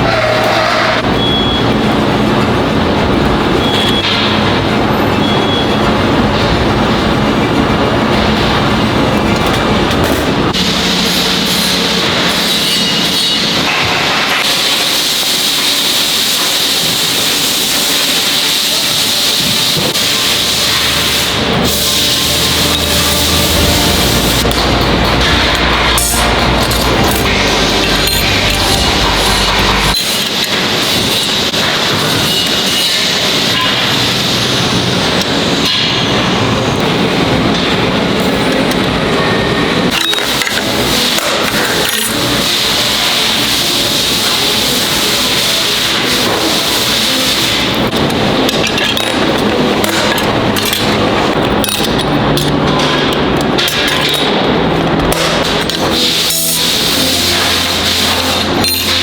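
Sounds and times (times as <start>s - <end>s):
factory machinery noise: 0.0s - 59.0s.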